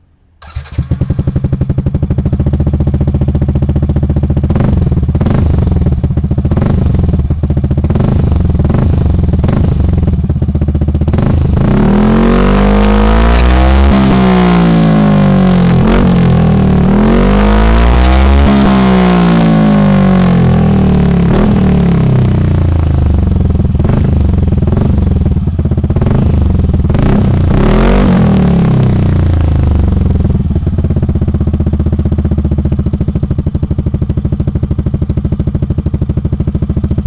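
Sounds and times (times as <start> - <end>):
scooter engine revving and idling: 0.4 - 37.0.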